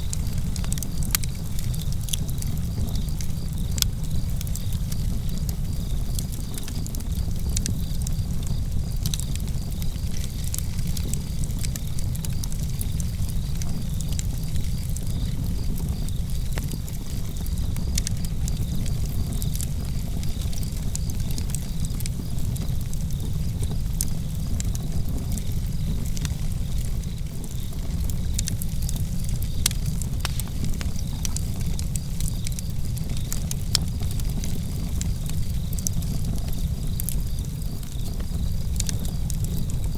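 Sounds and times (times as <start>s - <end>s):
burning wood crackling: 0.0s - 39.9s
crickets chirping: 0.0s - 39.9s
low rumble of flames: 0.0s - 39.9s.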